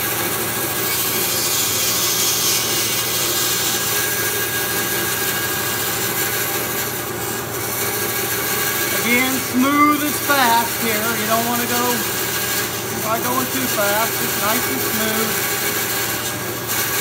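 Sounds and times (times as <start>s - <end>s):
bandsaw cutting rubber: 0.0s - 17.0s.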